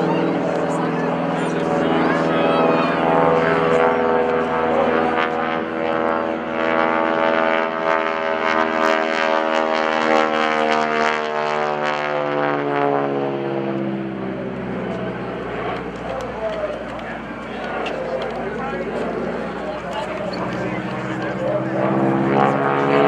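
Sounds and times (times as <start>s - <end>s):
propeller plane engine droning: 0.0s - 23.0s.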